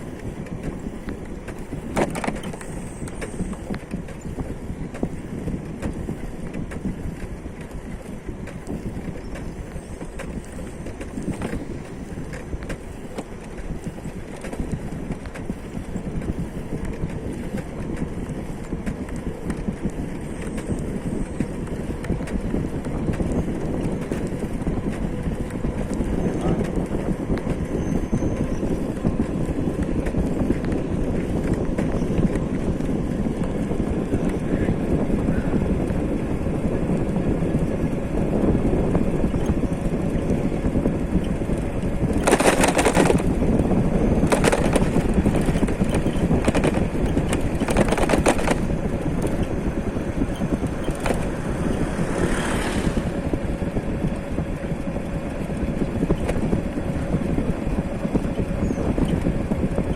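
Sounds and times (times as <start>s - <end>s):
rapid rattling clatter: 0.0s - 59.9s
vehicle rumble: 0.0s - 59.9s
wind on microphone: 0.0s - 59.9s.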